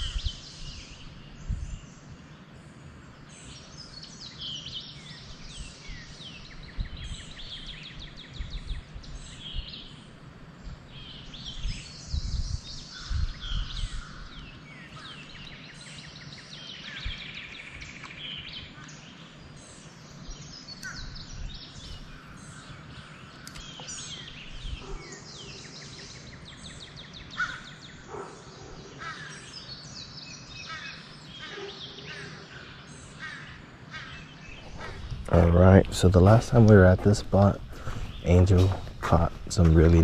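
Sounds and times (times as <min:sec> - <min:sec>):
birds singing and chirping: 0:00.0 - 0:40.0.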